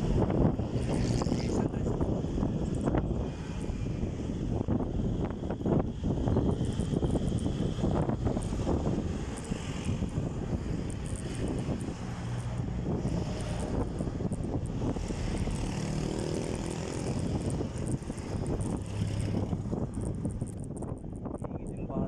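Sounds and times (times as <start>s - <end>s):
motor vehicle engine droning: 0.0s - 22.0s
wind rumbling on microphone: 0.0s - 22.0s.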